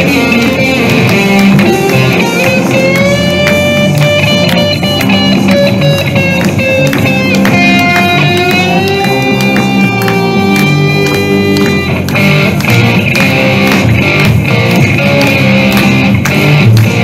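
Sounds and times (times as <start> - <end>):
electric guitar lead notes: 0.0 - 17.0
steady drum beat: 0.0 - 17.0.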